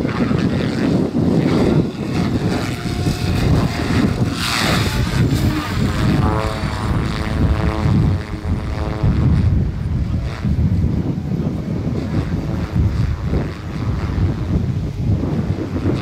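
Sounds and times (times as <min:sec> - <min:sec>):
helicopter rotor blades whooshing: 0:00.0 - 0:16.0
wind rumble on microphone: 0:00.0 - 0:16.0.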